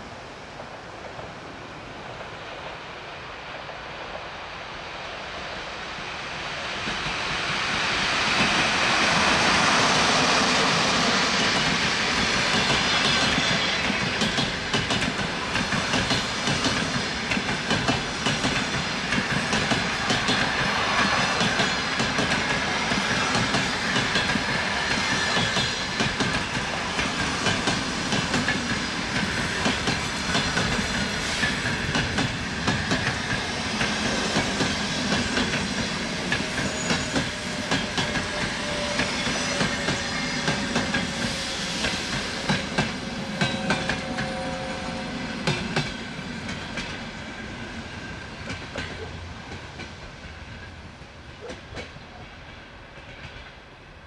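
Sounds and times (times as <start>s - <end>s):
electric locomotive passing: 0.0s - 54.0s.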